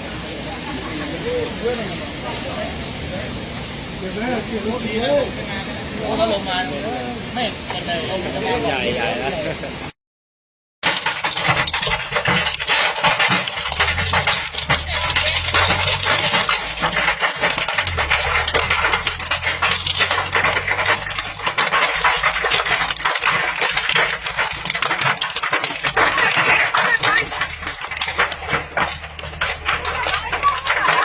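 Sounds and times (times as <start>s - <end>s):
hailstones pelting down: 0.0s - 9.8s, 10.8s - 31.0s.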